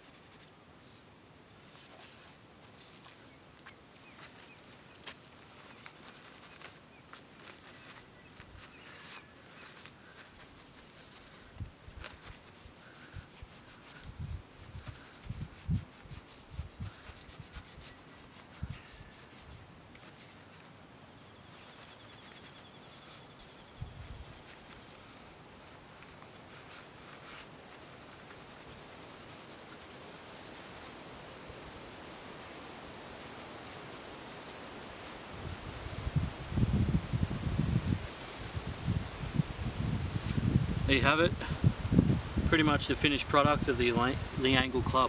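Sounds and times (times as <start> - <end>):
leaves scrubbing on wood: 0.0 - 45.0.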